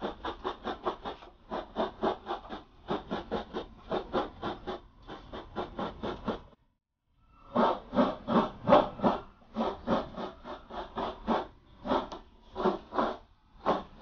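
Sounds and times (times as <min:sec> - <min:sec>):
rapid rhythmic scratching: 0:00.0 - 0:06.6, 0:07.5 - 0:14.0.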